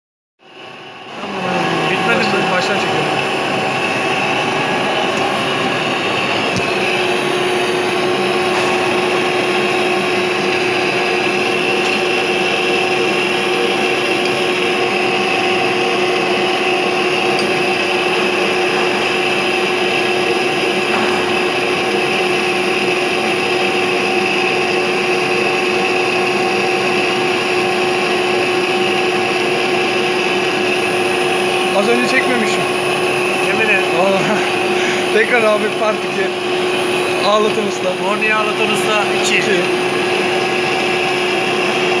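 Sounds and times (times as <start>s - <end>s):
lathe mechanical drone: 0.5s - 42.0s
lathe whining tones: 0.5s - 42.0s.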